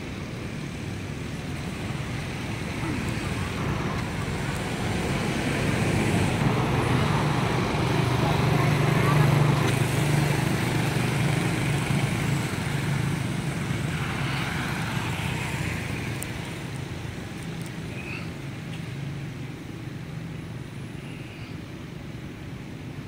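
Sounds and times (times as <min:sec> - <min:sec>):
vehicle engine hum: 0:00.0 - 0:23.0.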